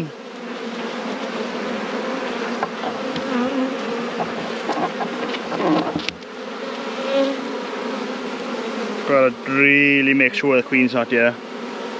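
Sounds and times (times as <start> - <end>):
bees buzzing: 0.0 - 11.9.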